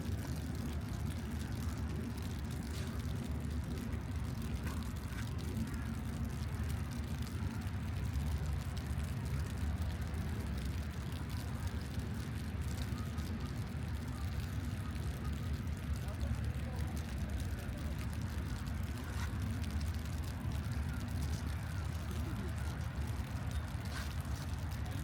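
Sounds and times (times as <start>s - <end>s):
traffic rumble: 0.0s - 25.0s
faint ticks: 0.1s - 25.0s.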